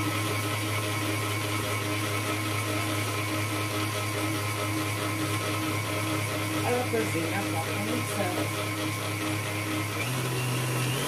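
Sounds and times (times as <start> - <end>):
stand mixer beating batter: 0.0 - 11.0.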